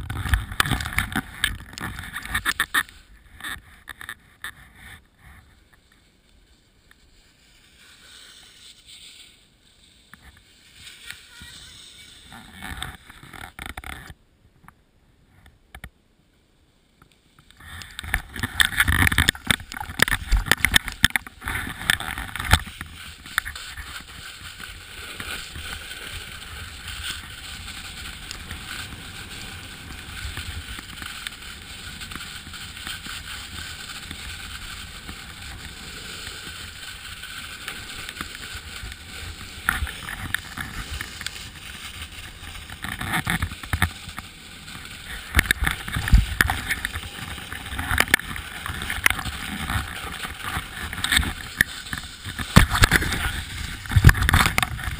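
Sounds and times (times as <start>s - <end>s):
board scraping on snow: 0.0s - 14.2s, 17.2s - 54.9s
wind rushing over camera: 0.0s - 14.2s, 17.4s - 54.9s.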